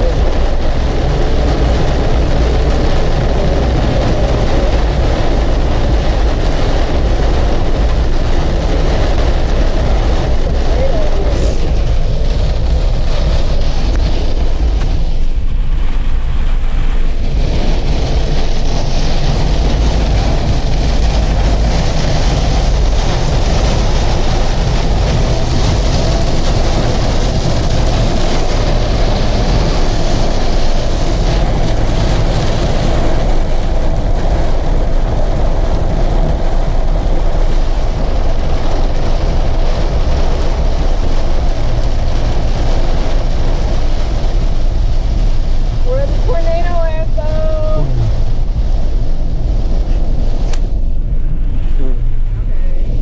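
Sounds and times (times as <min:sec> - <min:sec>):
car road noise: 0:00.0 - 0:53.0
low rumble: 0:00.0 - 0:53.0
rain on car: 0:00.0 - 0:53.0.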